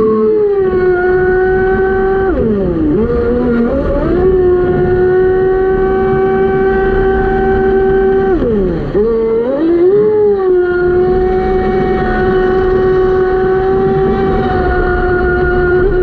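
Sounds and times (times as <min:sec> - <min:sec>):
electric motor whining: 0:00.0 - 0:16.0
water rushing along hull: 0:00.0 - 0:16.0.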